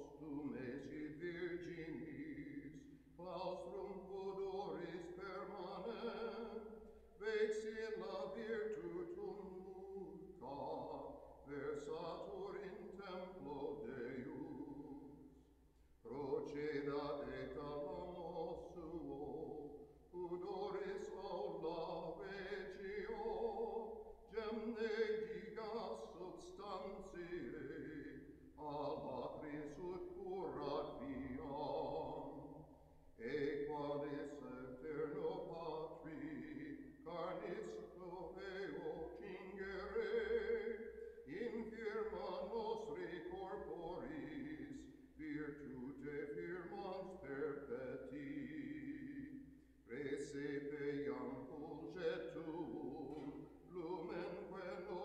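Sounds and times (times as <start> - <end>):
slow chant-like singing: 0.0 - 55.0.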